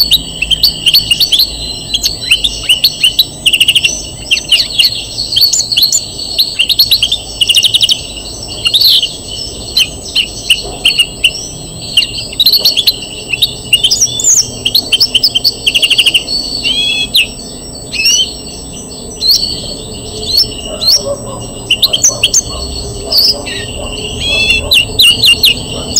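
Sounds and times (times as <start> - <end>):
finch singing trills: 0.0 - 25.9.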